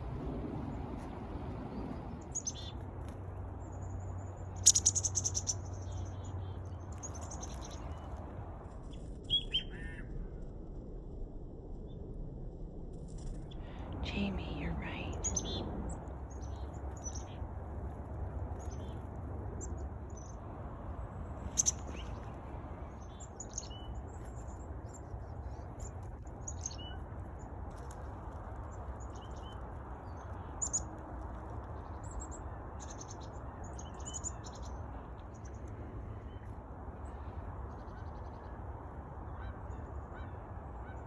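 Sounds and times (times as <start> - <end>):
songbirds chirping: 0.0 - 10.1, 13.5 - 41.0
low background rumble: 0.0 - 41.0.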